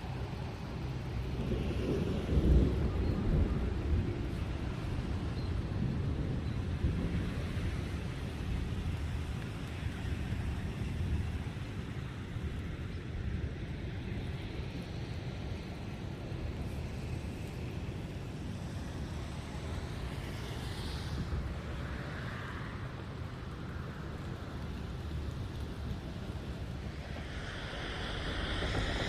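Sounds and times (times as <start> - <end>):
wind and rain rumble: 0.0 - 29.0.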